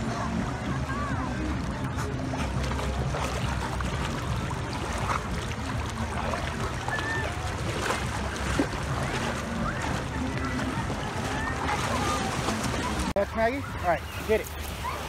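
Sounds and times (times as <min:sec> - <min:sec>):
low engine drone: 0:00.0 - 0:13.1
water sloshing and splashing: 0:00.0 - 0:15.0.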